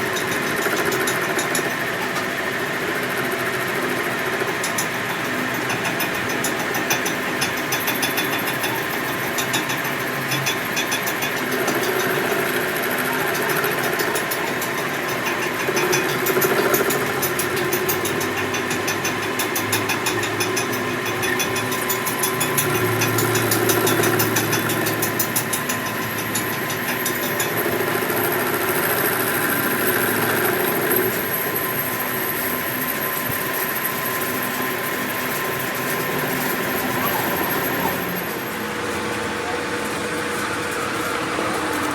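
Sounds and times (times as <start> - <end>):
machine running steadily: 0.0 - 41.9.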